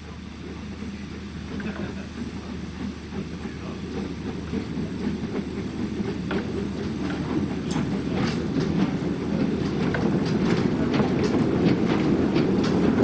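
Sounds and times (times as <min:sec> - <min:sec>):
train rumbling on rails: 0:00.0 - 0:13.0
wheels clicking on track: 0:00.0 - 0:13.0.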